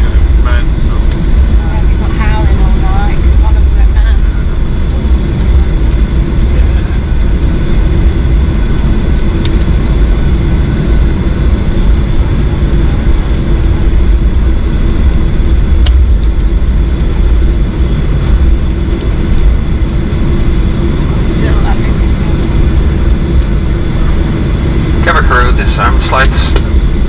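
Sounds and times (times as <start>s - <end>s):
airplane cabin engine rumble: 0.0s - 27.0s
faint steady hum: 0.0s - 27.0s.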